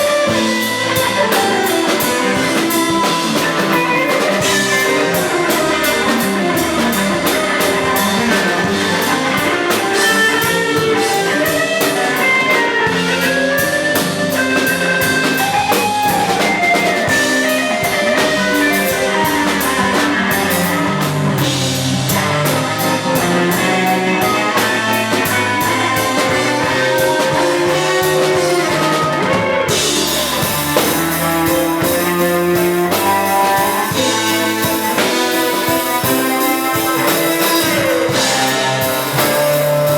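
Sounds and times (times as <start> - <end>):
cymbals: 0.0 - 39.9
rock-jazz band playing: 0.0 - 39.9.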